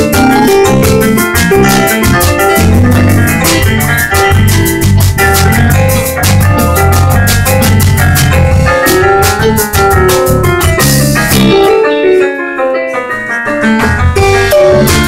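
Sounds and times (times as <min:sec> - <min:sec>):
jazz band playing: 0:00.0 - 0:15.0
keyboard playing: 0:00.0 - 0:15.0.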